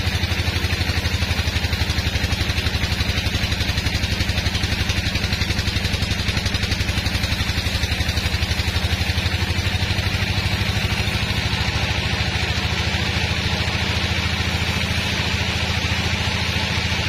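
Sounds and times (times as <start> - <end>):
sawmill engine pulsing: 0.0 - 17.0.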